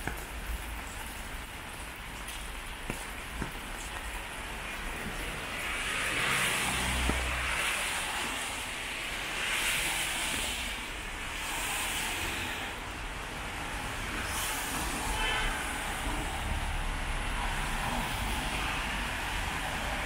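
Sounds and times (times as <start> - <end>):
tyres hissing on wet road: 0.0 - 20.0.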